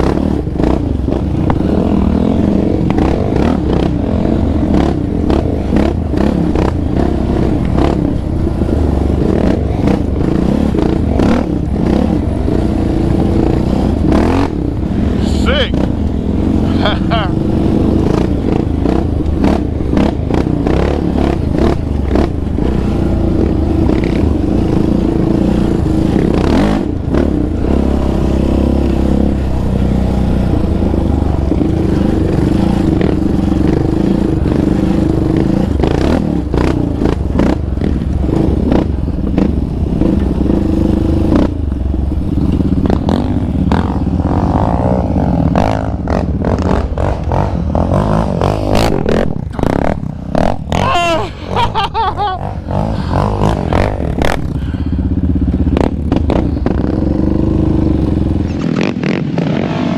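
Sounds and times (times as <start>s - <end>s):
quad engine running under load: 0.0s - 59.9s.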